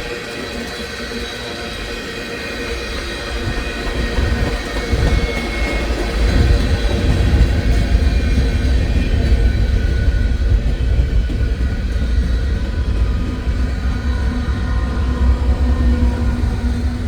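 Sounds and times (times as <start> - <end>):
freight train rumbling by: 0.0 - 17.0.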